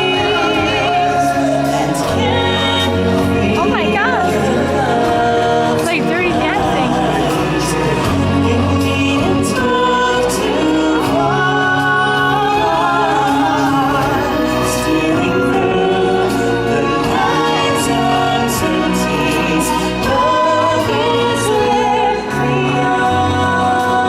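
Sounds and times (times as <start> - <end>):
choir singing held notes: 0.0 - 24.0
instrumental accompaniment: 0.0 - 24.0.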